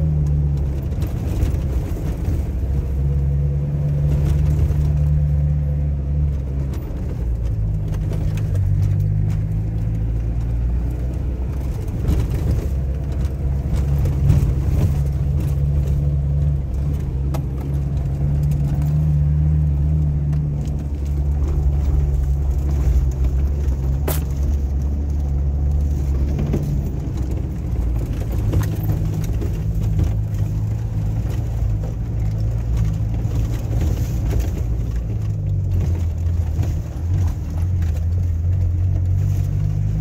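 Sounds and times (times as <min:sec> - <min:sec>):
engine hum inside car: 0:00.0 - 0:40.0
road rumble: 0:00.0 - 0:40.0.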